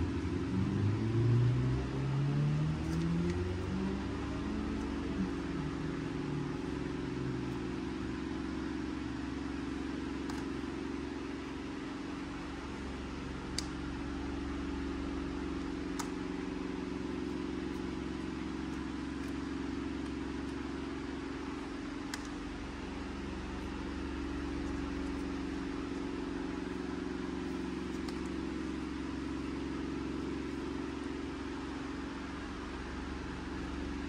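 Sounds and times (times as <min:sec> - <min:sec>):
low fan hum: 0:00.0 - 0:34.0.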